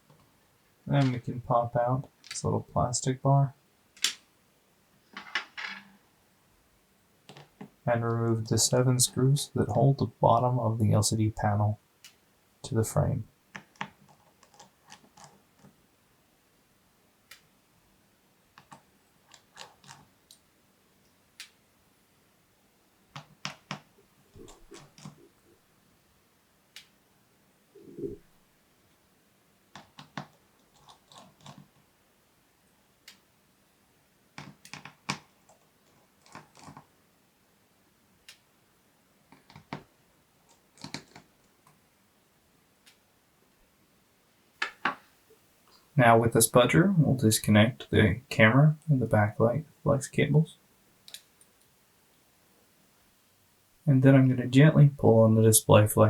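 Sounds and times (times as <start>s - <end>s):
faint background hiss: 0.0s - 56.0s.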